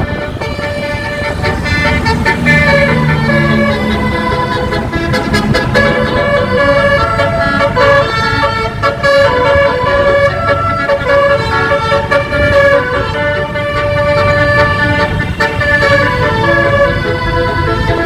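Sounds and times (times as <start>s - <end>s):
bus horn playing a melody: 0.0s - 18.0s.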